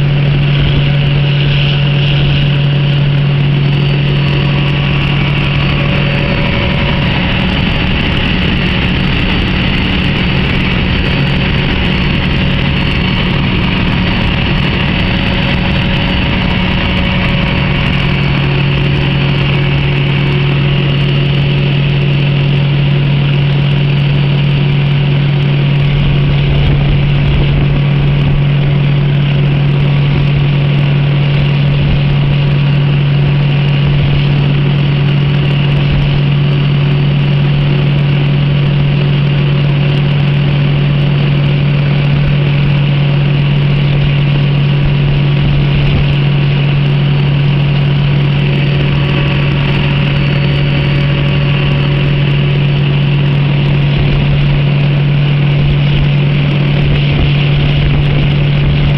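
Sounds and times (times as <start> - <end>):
train diesel engine droning: 0.0 - 58.9.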